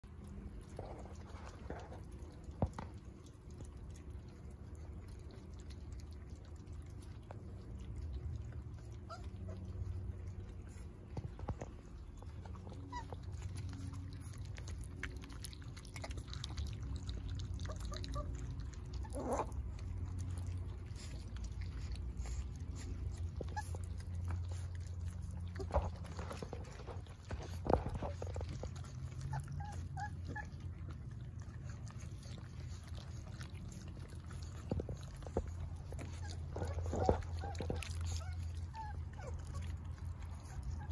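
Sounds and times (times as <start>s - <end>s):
puppies chewing wetly: 0.0s - 40.9s
puppies squeaking and whimpering: 8.0s - 40.9s.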